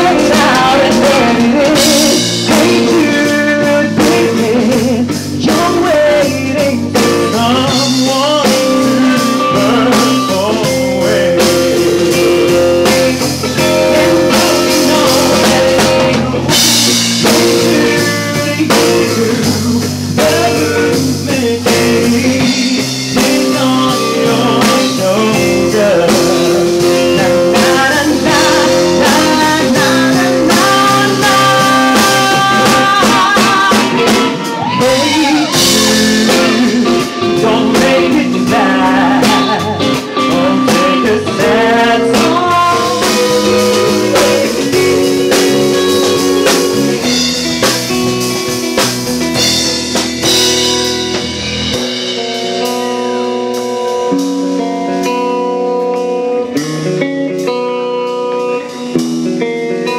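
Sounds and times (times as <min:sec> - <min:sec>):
man singing: 0:00.0 - 0:48.1
drum kit beat: 0:00.0 - 0:59.9
electric guitar: 0:00.0 - 0:59.9.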